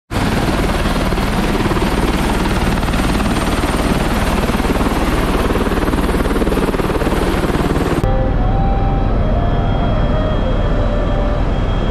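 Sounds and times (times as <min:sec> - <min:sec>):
helicopter engine noise: 0:00.1 - 0:11.9
helicopter rotor beat: 0:00.1 - 0:11.9.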